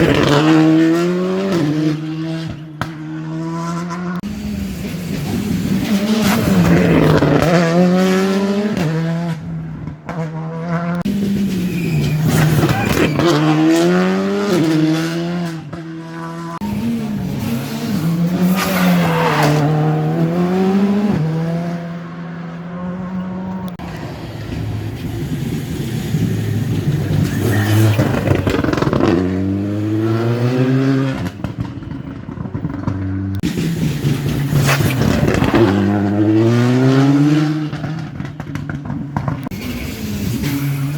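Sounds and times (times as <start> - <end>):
rally car engine at full throttle: 0.0 - 40.9.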